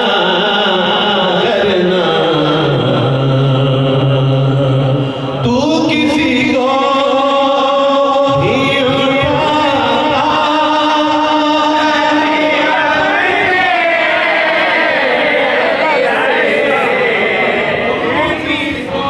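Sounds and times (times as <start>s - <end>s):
men chanting devotional recitation: 0.0s - 19.0s.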